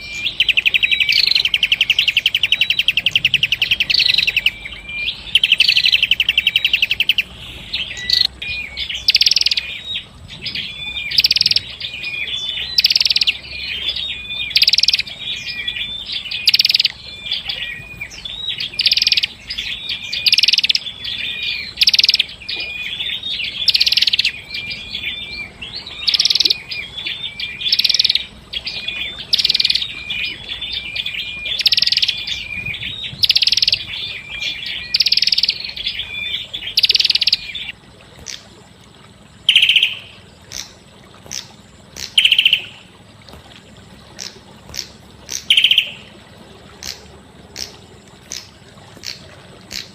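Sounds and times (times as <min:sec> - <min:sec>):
bird singing: 0:00.0 - 0:38.4, 0:39.4 - 0:43.0, 0:44.1 - 0:46.2.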